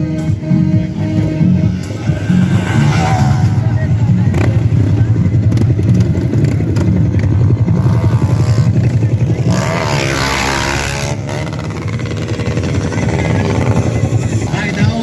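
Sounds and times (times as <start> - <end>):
motorcycle engine revving: 0.0 - 15.0
motorcycle engines rumbling: 0.0 - 15.0.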